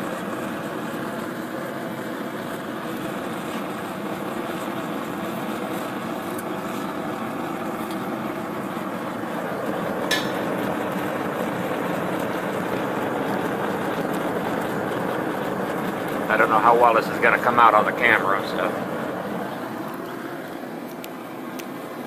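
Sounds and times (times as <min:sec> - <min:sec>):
gas burner flame rushing: 0:00.0 - 0:22.0.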